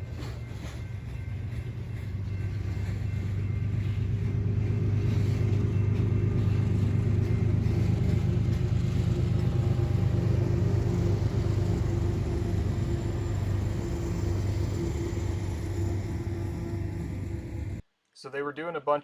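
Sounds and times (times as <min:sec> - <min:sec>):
car engine and road noise: 0:00.0 - 0:17.8.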